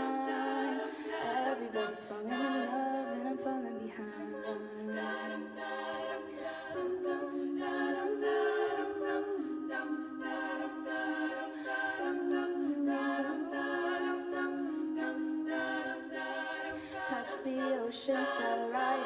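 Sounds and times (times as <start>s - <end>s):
a cappella group singing chords: 0.0s - 19.0s.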